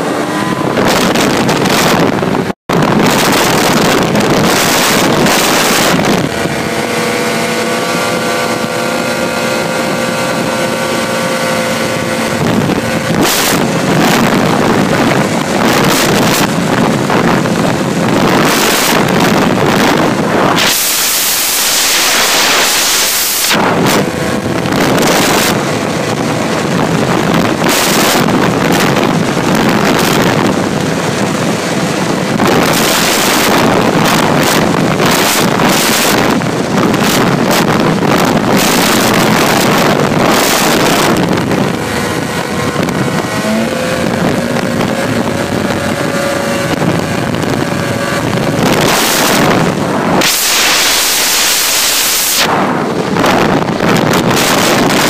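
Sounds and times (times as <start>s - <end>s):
snowmobile engine: 0.0s - 55.0s
wind buffeting microphone: 0.0s - 55.0s.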